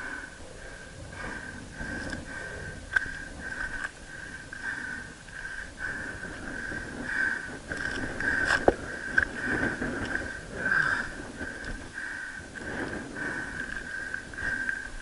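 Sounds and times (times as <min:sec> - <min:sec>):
person breathing: 0:00.0 - 0:15.0
movement on rock: 0:01.8 - 0:15.0.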